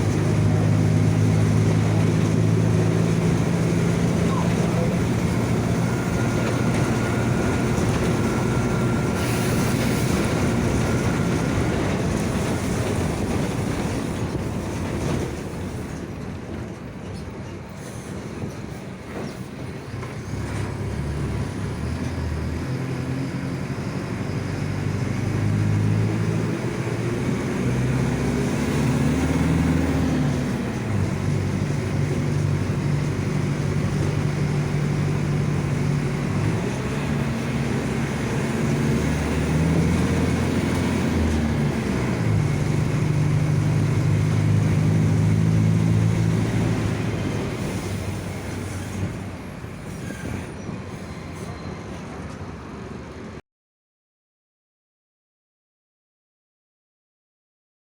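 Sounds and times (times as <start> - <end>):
bus diesel engine: 0.0 - 53.4
bus differential growl: 0.0 - 53.4.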